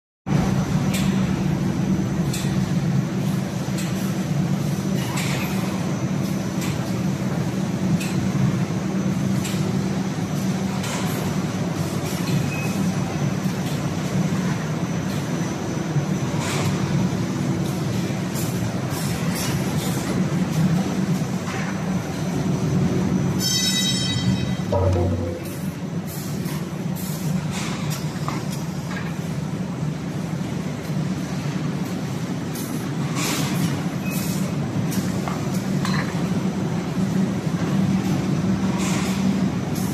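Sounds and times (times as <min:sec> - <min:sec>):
machinery hum: 0:00.3 - 0:39.9.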